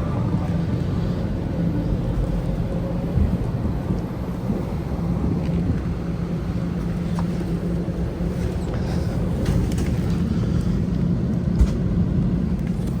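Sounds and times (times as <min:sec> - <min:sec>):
airliner cabin rumble and hum: 0:00.0 - 0:13.0.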